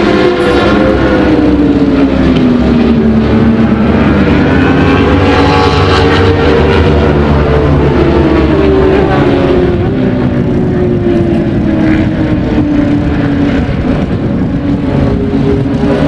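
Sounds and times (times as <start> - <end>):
racing motorcycle engine revving: 0.0 - 16.0.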